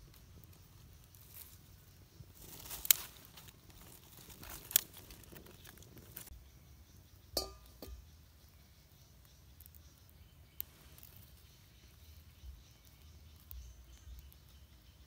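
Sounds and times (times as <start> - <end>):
wood fire crackling: 0.0 - 6.4, 9.1 - 15.0.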